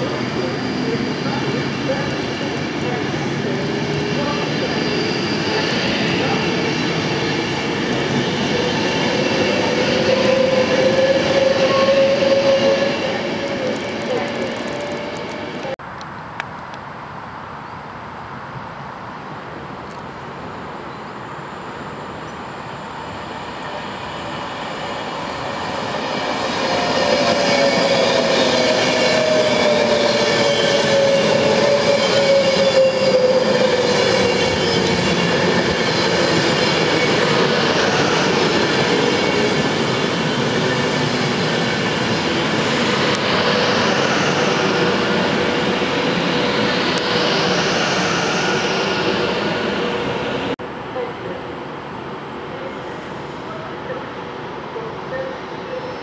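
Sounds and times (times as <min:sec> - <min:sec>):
electric train passing: 0:00.0 - 0:15.8, 0:20.5 - 0:56.0.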